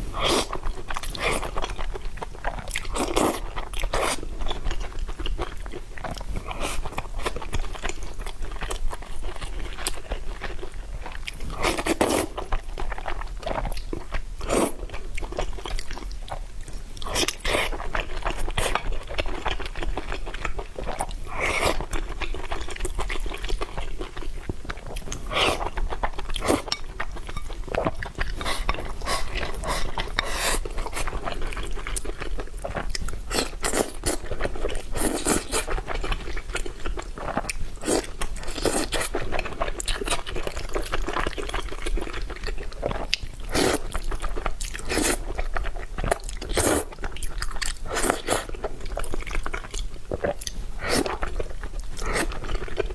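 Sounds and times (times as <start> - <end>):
person chewing crunchy food: 0.0 - 52.9.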